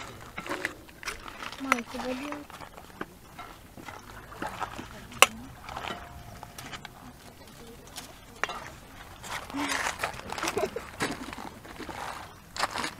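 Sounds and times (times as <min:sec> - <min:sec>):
faint voices: 0:00.0 - 0:12.9.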